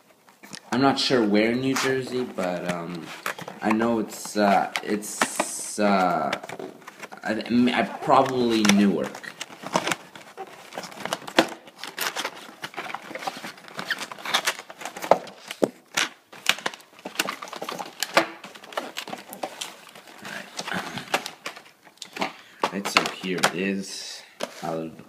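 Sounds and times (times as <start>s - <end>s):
plastic tray scraping cardboard: 1.6s - 23.6s.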